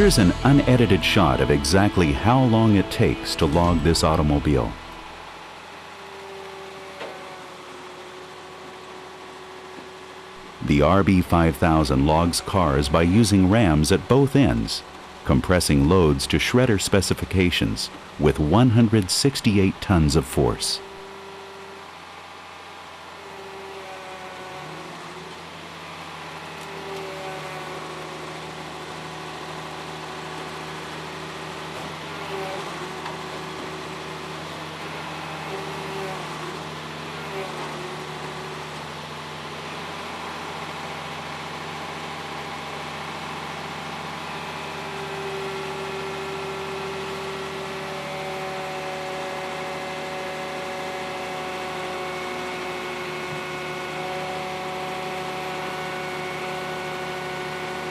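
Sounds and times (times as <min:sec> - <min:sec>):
hydraulic pump whine: 0:00.0 - 0:18.9, 0:20.8 - 0:57.9
diesel engine running under load: 0:00.0 - 0:57.9.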